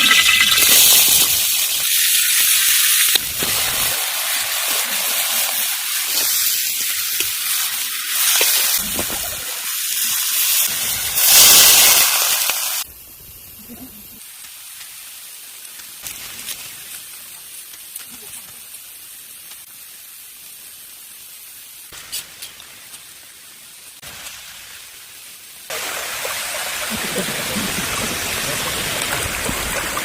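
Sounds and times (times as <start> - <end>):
food sizzling in a pan: 0.0 - 27.2.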